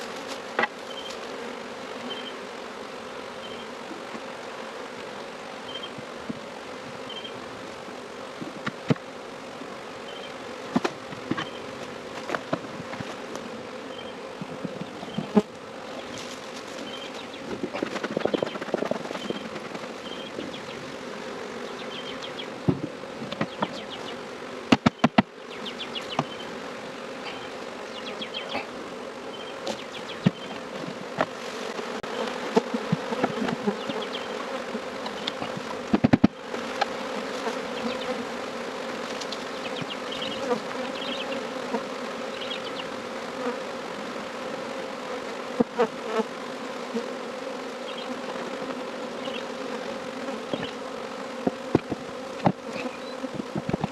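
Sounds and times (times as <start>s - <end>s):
bees buzzing: 0.0s - 53.9s.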